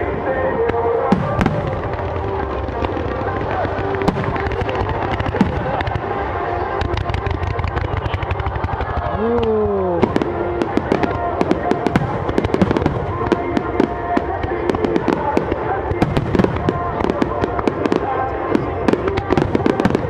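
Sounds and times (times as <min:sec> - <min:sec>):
fireworks bursting: 0:00.0 - 0:20.0
crackles and pops: 0:00.7 - 0:20.0.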